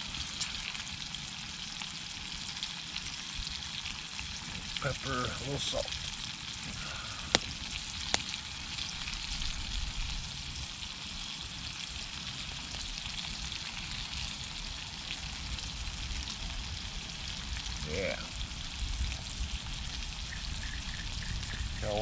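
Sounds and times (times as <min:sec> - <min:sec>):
potatoes sizzling in a skillet: 0:00.0 - 0:22.0.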